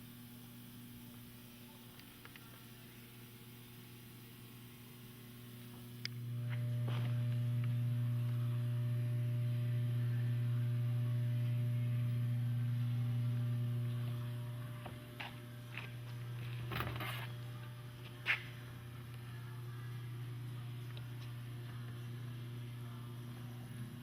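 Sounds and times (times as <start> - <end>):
low electric hum: 0.0 - 24.0.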